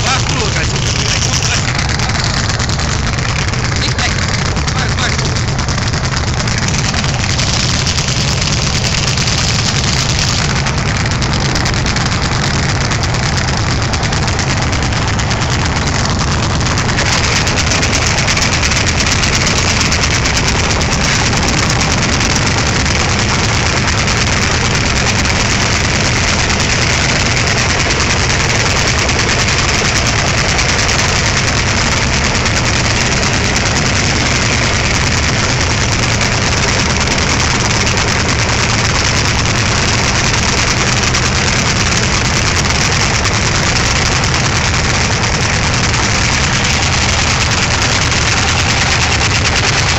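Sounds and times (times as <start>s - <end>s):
tractor engine running under load: 0.0s - 49.9s.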